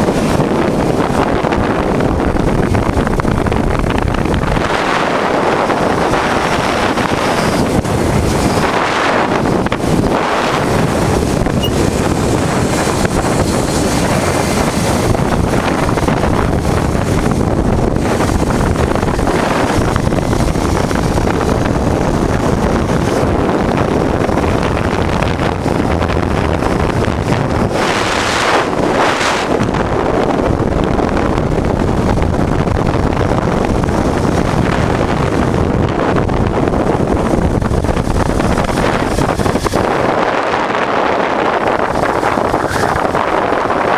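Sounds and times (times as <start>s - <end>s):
wind rushing over microphone: 0.0s - 43.9s.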